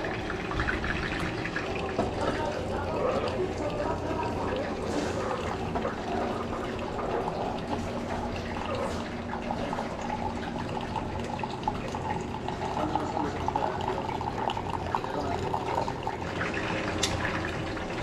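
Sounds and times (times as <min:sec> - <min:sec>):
coffee maker low hum: 0:00.0 - 0:18.0
coffee pouring into mug: 0:00.0 - 0:18.0.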